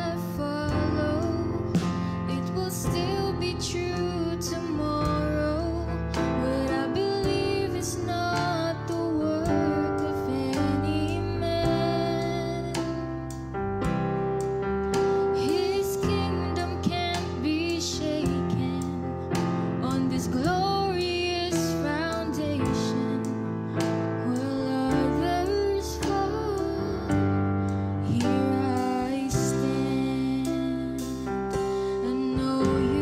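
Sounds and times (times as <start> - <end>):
woman singing into microphone: 0.0 - 13.3, 15.1 - 33.0
instrumental accompaniment: 0.0 - 33.0.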